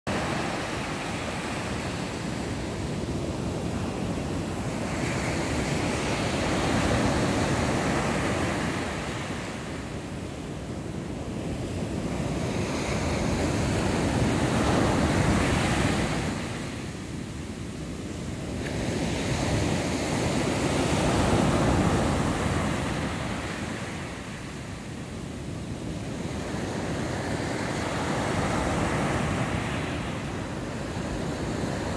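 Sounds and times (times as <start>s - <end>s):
wind on microphone: 0.1s - 31.9s.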